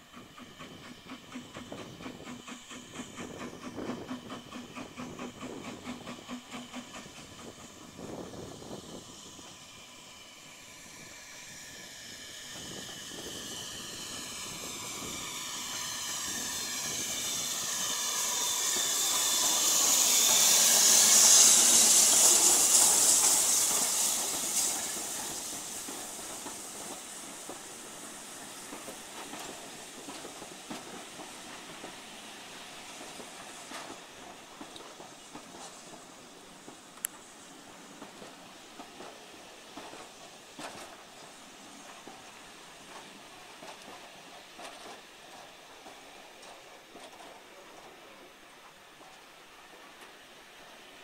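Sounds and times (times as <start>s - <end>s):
steam hissing: 0.0s - 51.0s
steam locomotive passing: 0.0s - 51.0s.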